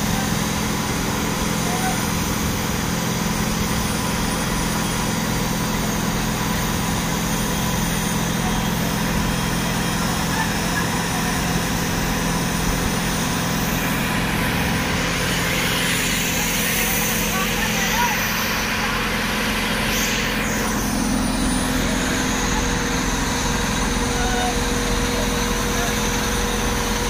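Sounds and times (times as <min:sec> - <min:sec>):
crane diesel engines running: 0:00.0 - 0:27.0.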